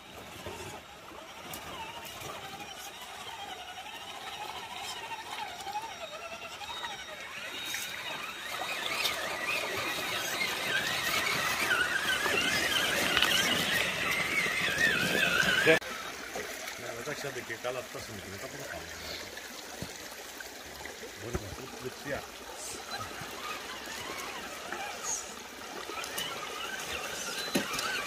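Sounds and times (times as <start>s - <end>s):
rc truck electric motor whine: 0.0s - 16.8s, 21.3s - 28.0s
truck driving through water: 0.0s - 18.4s, 21.2s - 28.0s.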